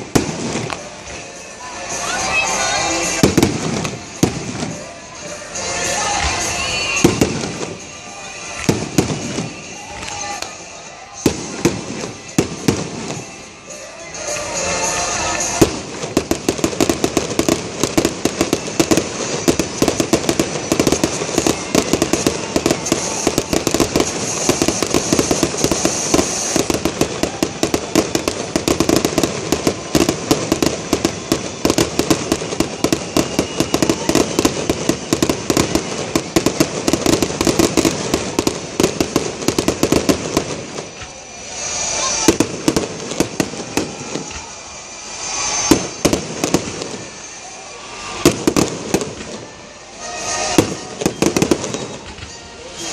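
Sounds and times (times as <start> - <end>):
fireworks popping and crackling: 0.0 - 52.9.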